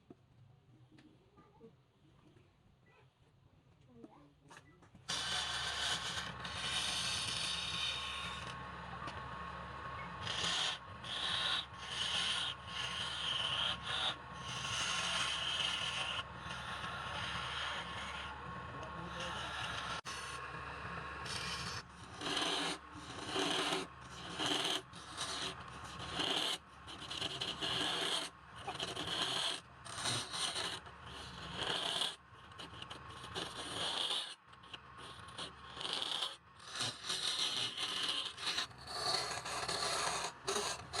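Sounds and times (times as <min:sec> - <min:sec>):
tool rasping on wood: 0:05.1 - 0:41.0.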